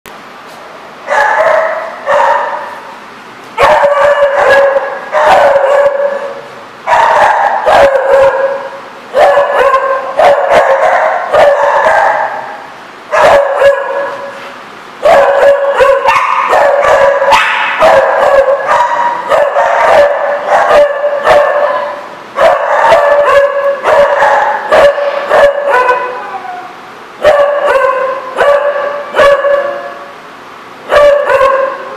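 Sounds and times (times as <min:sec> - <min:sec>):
dog barking loudly: 0:01.0 - 0:02.9, 0:03.6 - 0:14.4, 0:15.0 - 0:26.5, 0:27.2 - 0:30.1, 0:30.8 - 0:31.9.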